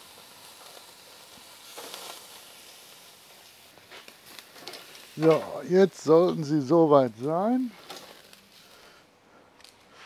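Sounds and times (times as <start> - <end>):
steak sizzling on a grill: 0.0 - 9.0.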